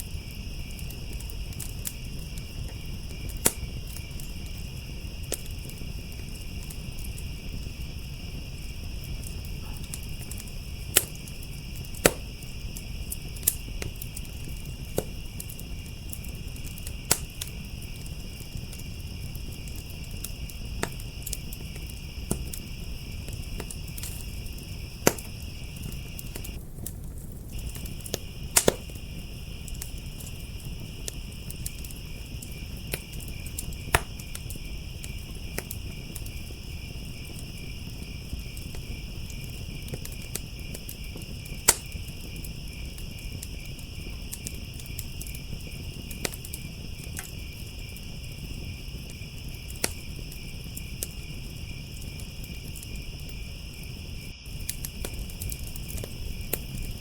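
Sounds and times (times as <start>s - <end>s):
crickets trilling: 0.0s - 57.0s
wood fire crackling and popping: 0.0s - 57.0s.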